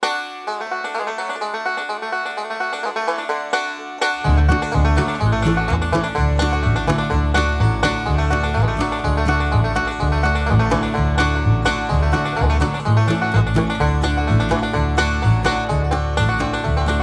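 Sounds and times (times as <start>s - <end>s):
bluegrass plucked-string music: 0.0s - 17.0s.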